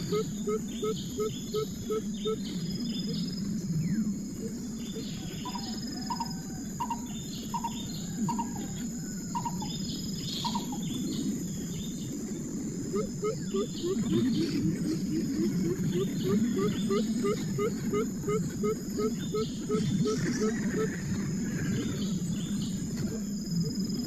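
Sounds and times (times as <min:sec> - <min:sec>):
birds calling: 0:00.0 - 0:24.0
insects droning: 0:00.0 - 0:24.0.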